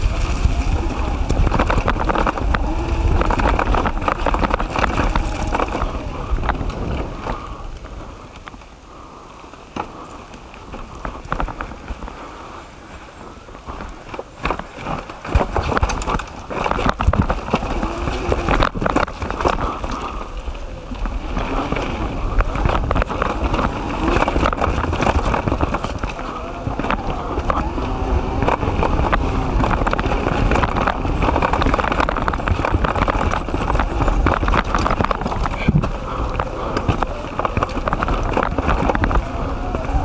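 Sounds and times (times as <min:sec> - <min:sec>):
bike knocking and rattling: 0:00.0 - 0:40.0
bike tyres rolling on dirt: 0:00.0 - 0:40.0.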